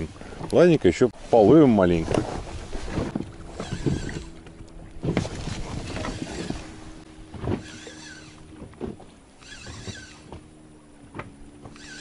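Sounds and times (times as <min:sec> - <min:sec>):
gear knocking in boat: 0:02.0 - 0:12.0.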